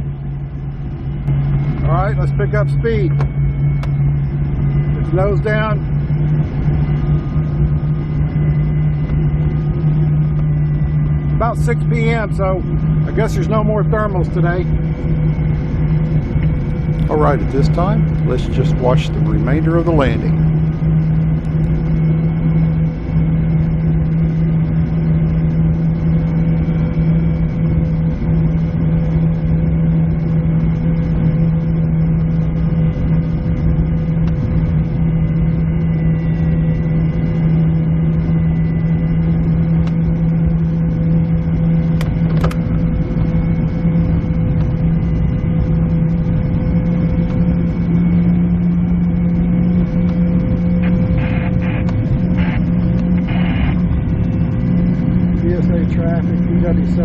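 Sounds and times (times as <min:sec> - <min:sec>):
constant low hum: 0:00.0 - 0:57.0.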